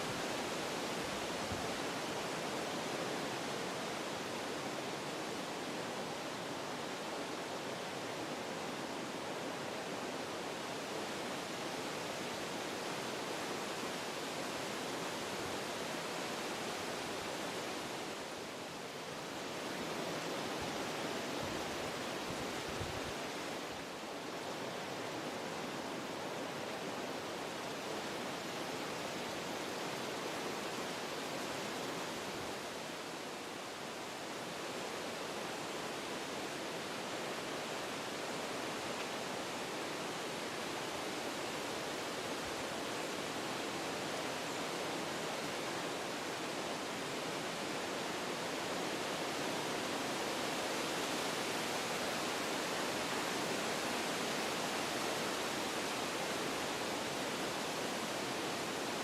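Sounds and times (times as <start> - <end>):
wind through forest trees: 0.0 - 59.0.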